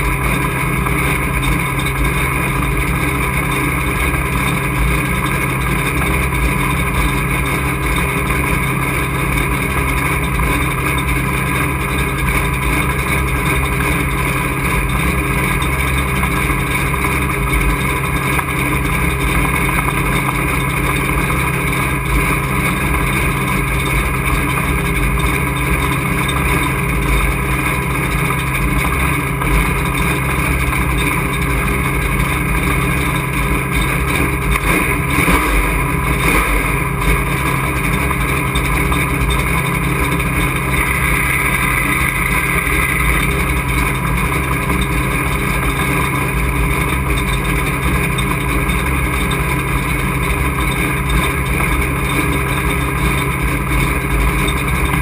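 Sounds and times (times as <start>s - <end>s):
race truck engine running steadily: 0.0s - 55.0s.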